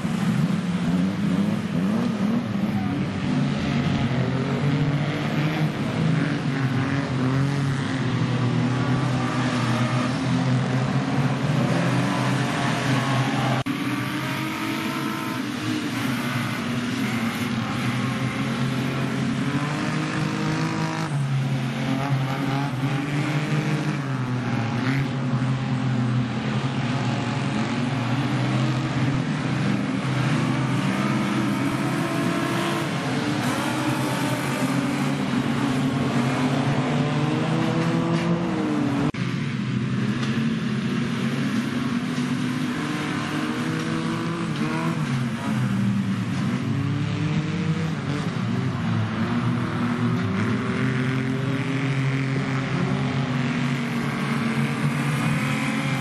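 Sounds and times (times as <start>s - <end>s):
stockcar engines revving: 0.0s - 56.0s.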